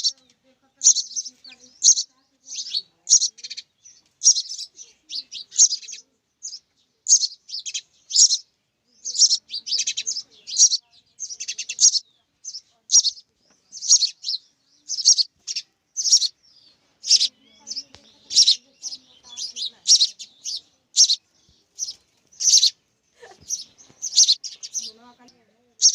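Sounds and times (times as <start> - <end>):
young sparrows chirping: 0.0 - 25.9.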